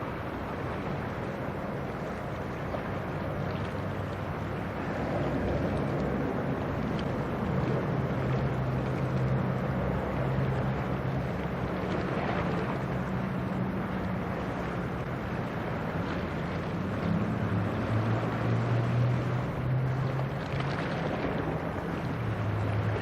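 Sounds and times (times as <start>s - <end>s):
ship engine droning: 0.0s - 23.0s
wind buffeting microphone: 0.0s - 23.0s.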